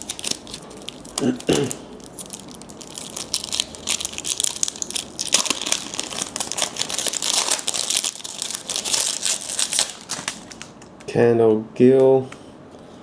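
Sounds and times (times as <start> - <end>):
card pack wrapper crinkling: 0.0 - 10.8.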